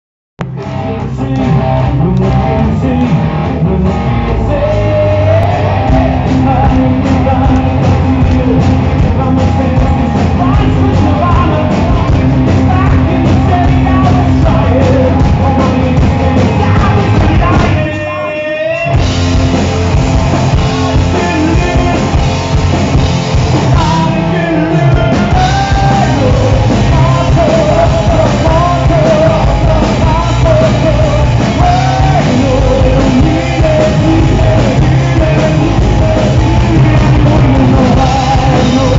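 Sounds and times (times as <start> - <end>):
electric guitars: 0.4 - 38.9
live rock band playing: 0.4 - 38.9
lead singer singing: 0.6 - 38.9.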